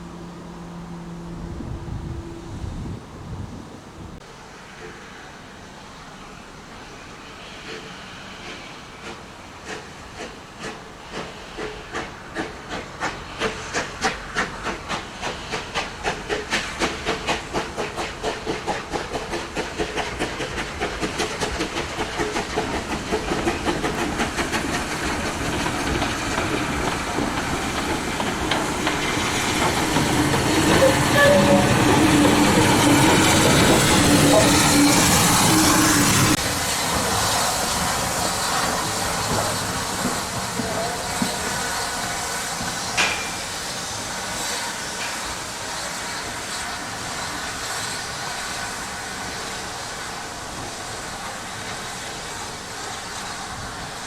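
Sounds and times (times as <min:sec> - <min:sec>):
steam hiss: 0:04.2 - 0:54.0
steam locomotive exhaust chuffs: 0:06.8 - 0:54.0.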